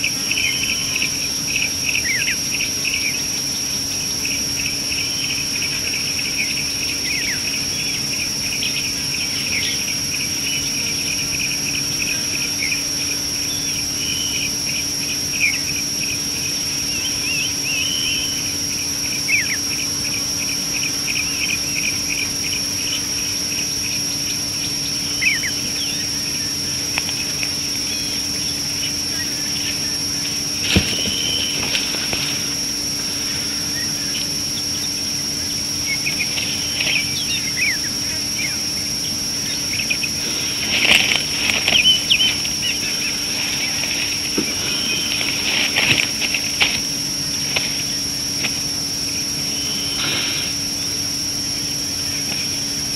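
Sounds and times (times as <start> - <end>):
bird calls: 0.0 - 52.9
insects and crickets calling: 0.0 - 52.9.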